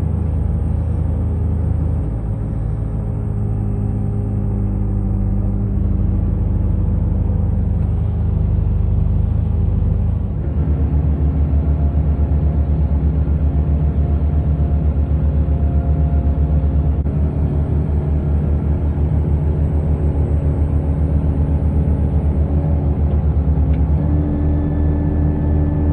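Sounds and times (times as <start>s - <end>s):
diesel engine running under load: 0.0s - 25.9s.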